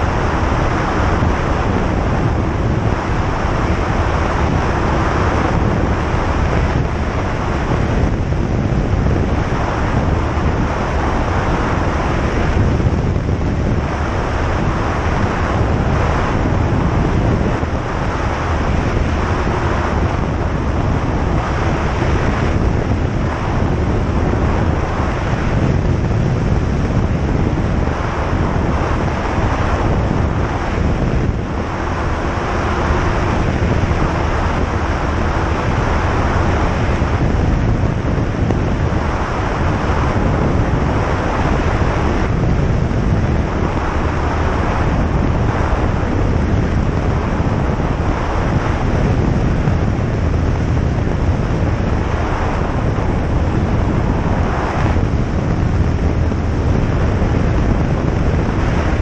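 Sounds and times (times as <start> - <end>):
air rushing past: 0.0 - 59.0
aircraft engine and propeller drone: 0.0 - 59.0.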